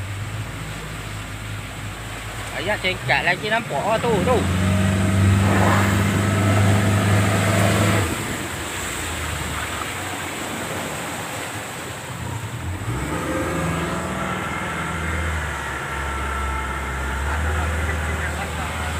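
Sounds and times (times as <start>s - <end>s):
boat engine running: 0.0s - 18.9s
water: 0.0s - 18.9s
wind: 0.0s - 18.9s.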